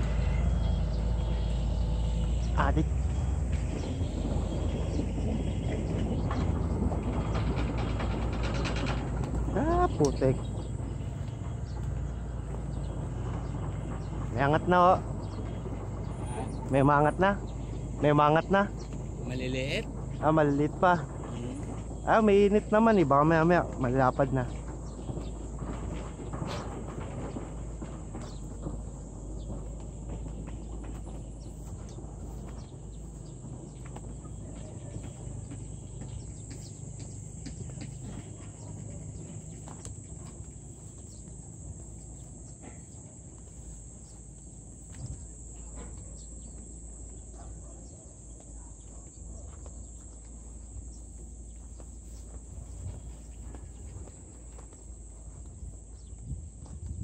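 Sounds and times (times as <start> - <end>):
wind rumble on microphone: 0.0 - 43.1, 51.8 - 57.0
footsteps on dirt and grass: 9.1 - 57.0.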